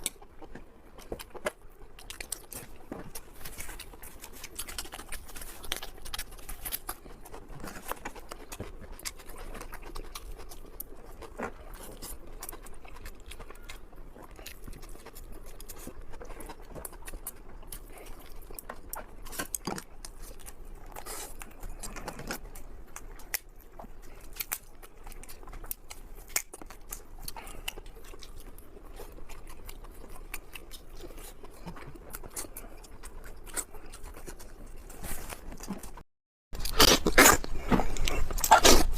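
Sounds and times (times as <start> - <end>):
person chewing food: 0.0 - 36.0, 36.6 - 38.9.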